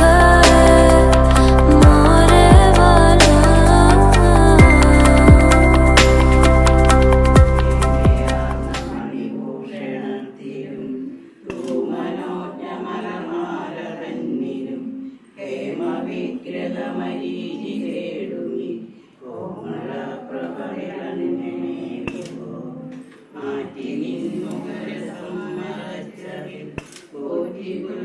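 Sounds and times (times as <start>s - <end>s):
women chanting in unison: 0.0s - 5.9s, 8.8s - 28.0s.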